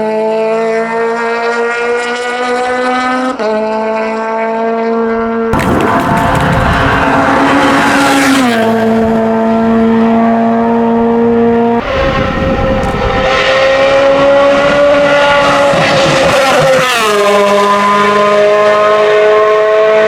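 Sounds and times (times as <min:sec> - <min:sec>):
race car engine revving high: 0:00.0 - 0:20.0.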